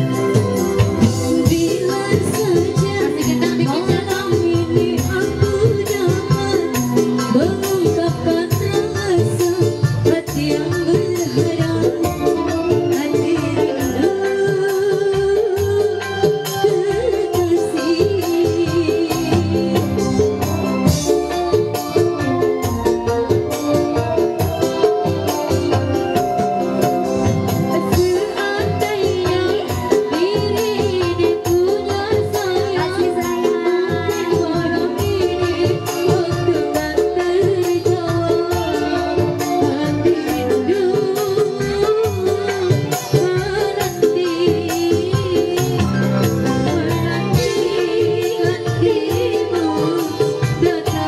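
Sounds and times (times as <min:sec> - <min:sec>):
electronic keyboard melody: 0:00.0 - 0:51.0
steady drum beat: 0:00.0 - 0:51.0
woman singing into a microphone: 0:00.0 - 0:51.0.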